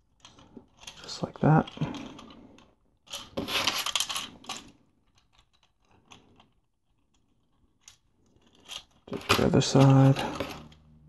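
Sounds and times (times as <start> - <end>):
plastic toy bricks clicking and rattling: 0.1 - 10.9.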